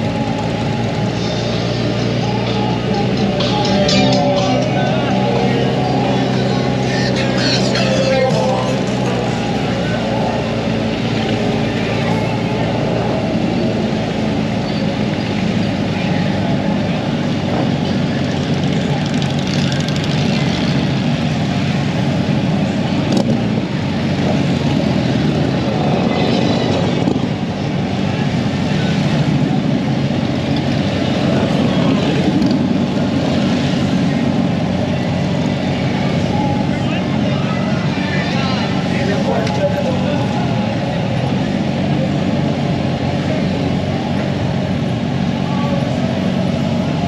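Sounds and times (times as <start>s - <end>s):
motorcycle engine running: 0.0s - 37.8s
road noise: 0.0s - 47.0s.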